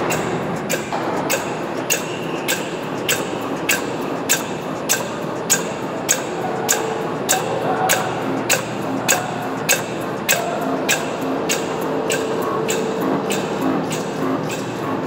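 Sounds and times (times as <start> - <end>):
machine clicking: 0.0 - 15.0
mechanical hum: 0.0 - 15.0.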